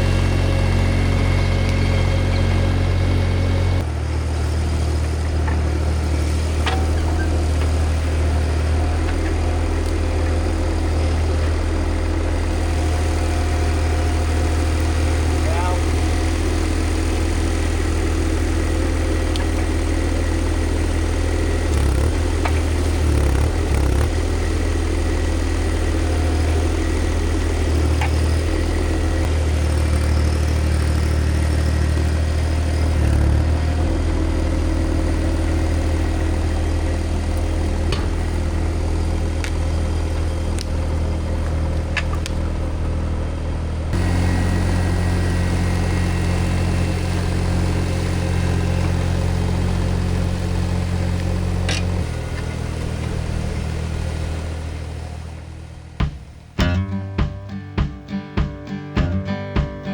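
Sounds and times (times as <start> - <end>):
skid steer engine running: 0.0 - 57.4.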